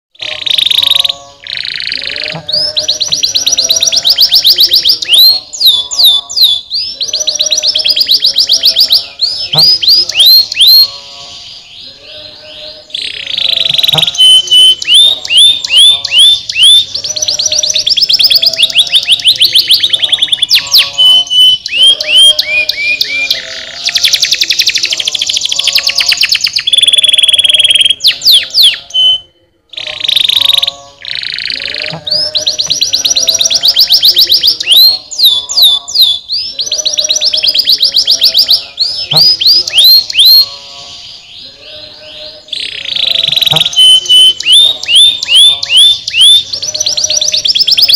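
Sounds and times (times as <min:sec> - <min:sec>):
canary singing rapid trills: 0:00.2 - 0:47.9.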